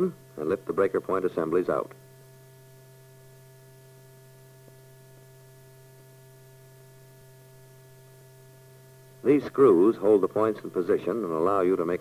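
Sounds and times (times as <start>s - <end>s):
electrical hum: 0.0s - 12.0s
faint hiss: 0.0s - 12.0s.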